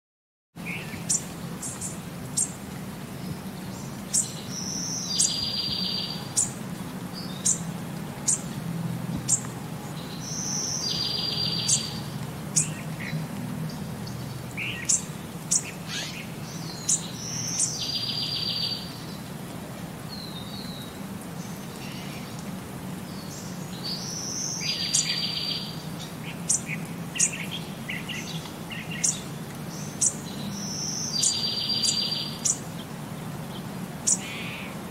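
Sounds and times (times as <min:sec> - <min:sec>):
birds chirping and trilling: 0:00.6 - 0:08.6, 0:09.3 - 0:19.3, 0:23.1 - 0:32.9, 0:33.5 - 0:34.9.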